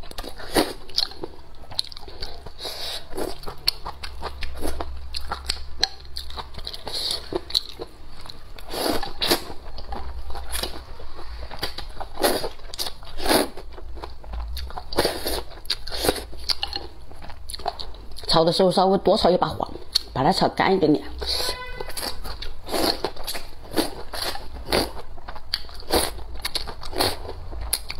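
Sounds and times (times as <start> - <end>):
person chewing: 0.0 - 18.4, 19.6 - 20.1, 21.2 - 27.9.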